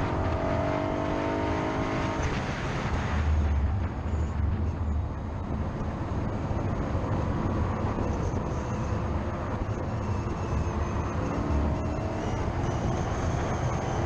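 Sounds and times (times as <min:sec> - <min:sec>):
wind and tyre noise: 0:00.0 - 0:14.0.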